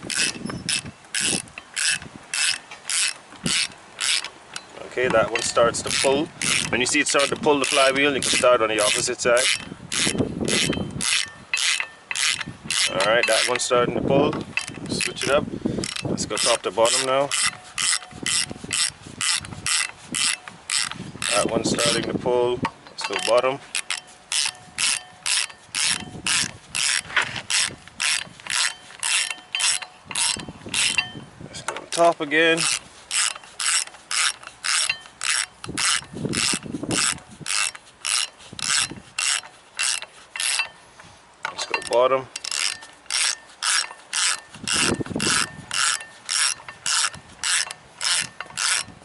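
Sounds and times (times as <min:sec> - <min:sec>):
hand ratchet clicking: 0:00.0 - 0:49.0.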